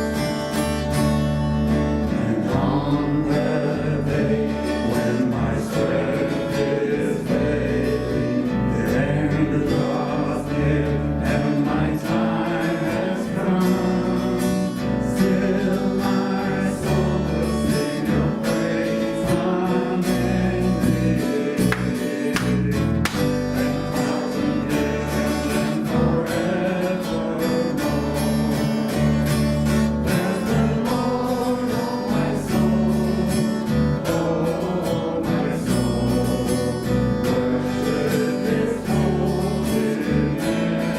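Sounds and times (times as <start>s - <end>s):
bass: 0.0s - 40.9s
strummed acoustic guitar: 0.0s - 40.9s
worship band playing: 0.0s - 40.9s
person singing: 2.2s - 40.9s.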